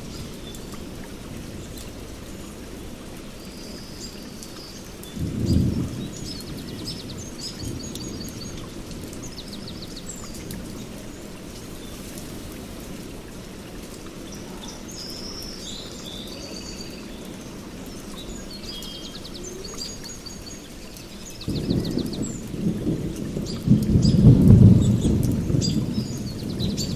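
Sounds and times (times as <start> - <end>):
songbirds chirping: 0.0 - 26.9
steady rain: 0.0 - 26.9.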